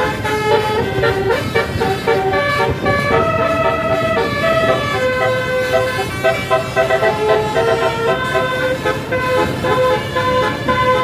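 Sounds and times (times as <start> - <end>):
bus engine running: 0.0 - 11.0
bus musical horn tune: 0.0 - 11.0.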